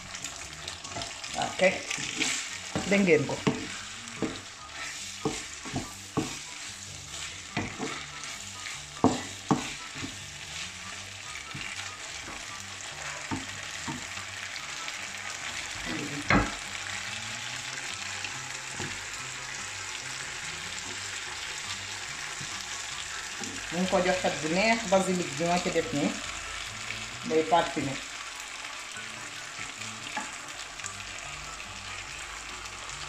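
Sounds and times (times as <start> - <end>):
pasta sizzling in frying pan: 0.0 - 33.0.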